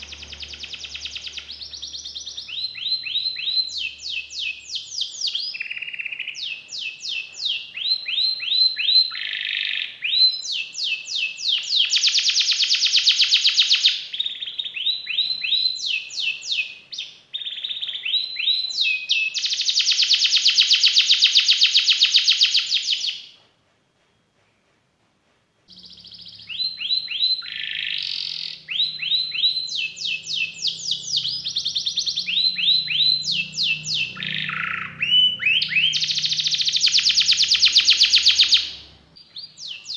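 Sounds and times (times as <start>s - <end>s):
canary singing: 0.0s - 23.3s, 25.7s - 39.9s.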